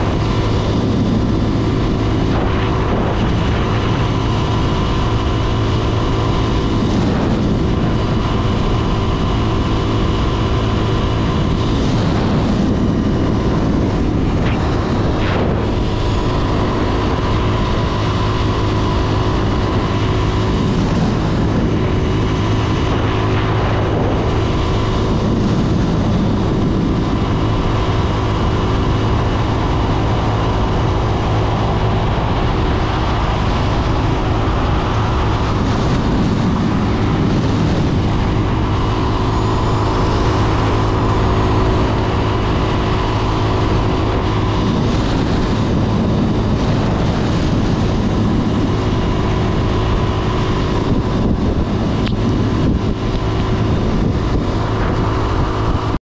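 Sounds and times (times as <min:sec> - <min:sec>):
motorcycle engine cruising: 0:00.0 - 0:56.0
road and wind noise: 0:00.0 - 0:56.0.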